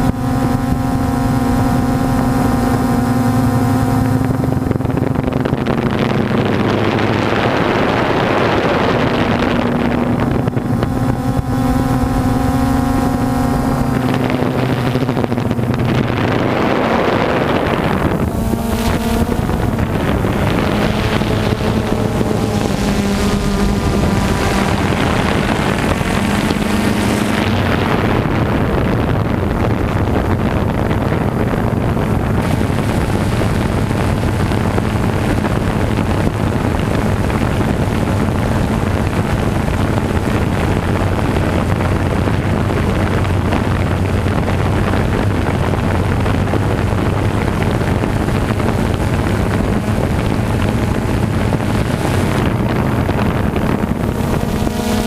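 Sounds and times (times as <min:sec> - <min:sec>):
rushing noise: 0:00.0 - 0:55.0
vehicle engine running: 0:00.0 - 0:55.0.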